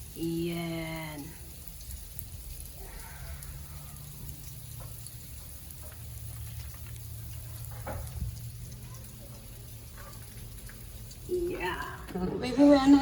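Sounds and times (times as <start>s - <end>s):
sleet ticking on surfaces: 0.0s - 12.1s.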